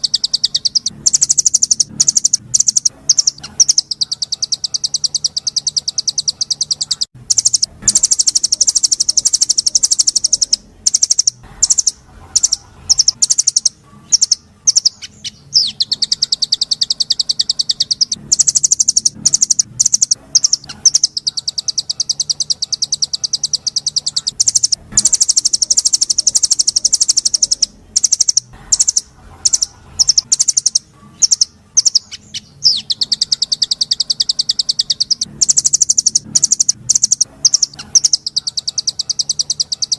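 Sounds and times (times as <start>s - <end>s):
songbird rapid trills: 0.0s - 39.9s.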